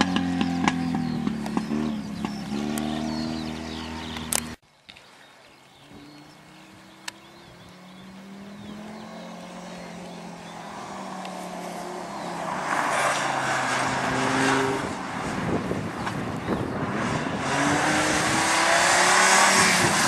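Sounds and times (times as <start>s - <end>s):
rally car engine: 0.0s - 4.6s, 6.0s - 20.0s.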